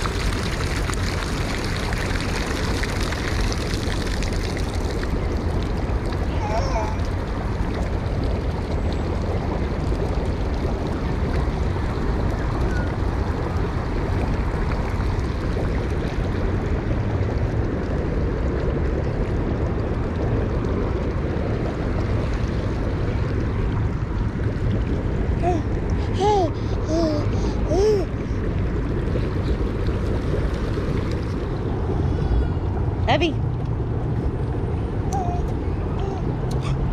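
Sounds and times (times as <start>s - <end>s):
fountain jets splashing on stone: 0.0s - 27.5s, 28.1s - 36.9s.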